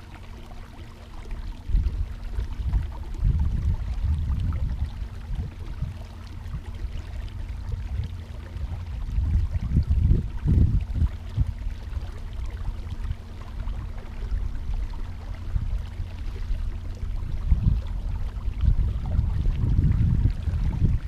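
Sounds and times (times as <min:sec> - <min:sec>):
faint steady hum: 0:00.0 - 0:21.0
wind buffeting the microphone: 0:01.5 - 0:21.0.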